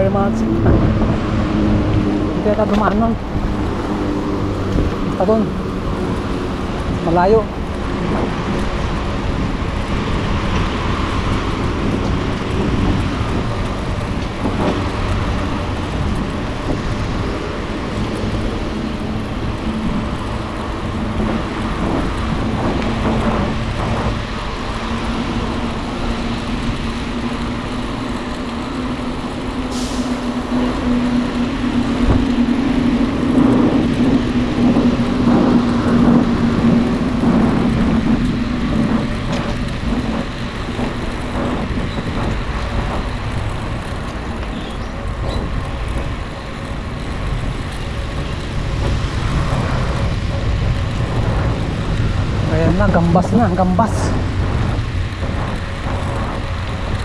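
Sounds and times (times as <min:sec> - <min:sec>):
passing motor traffic: 0:00.0 - 0:57.0
road and wind noise: 0:00.0 - 0:57.0.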